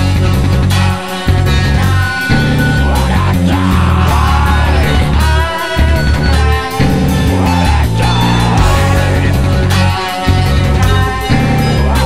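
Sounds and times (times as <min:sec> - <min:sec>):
electronic rock music with guitar: 0:00.0 - 0:12.0.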